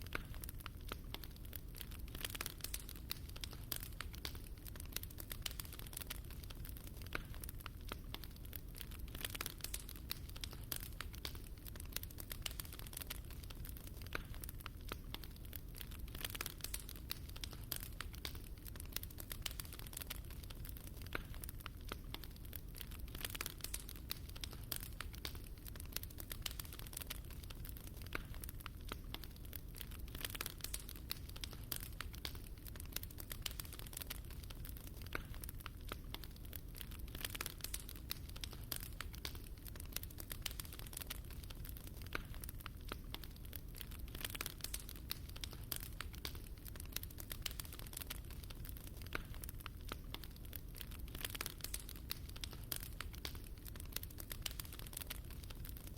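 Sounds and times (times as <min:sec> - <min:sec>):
fire crackling: 0:00.0 - 0:55.9.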